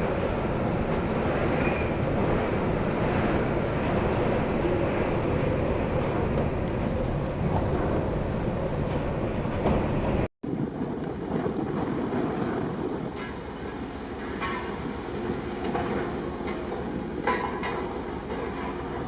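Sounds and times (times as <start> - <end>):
rough sea noise: 0.0 - 19.0
storm wind blowing: 0.0 - 19.0.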